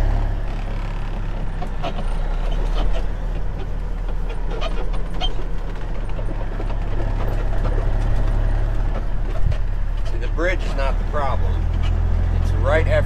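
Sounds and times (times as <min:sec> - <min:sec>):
cab rattles and clicks: 0:00.0 - 0:13.0
diesel truck engine droning: 0:00.0 - 0:13.0.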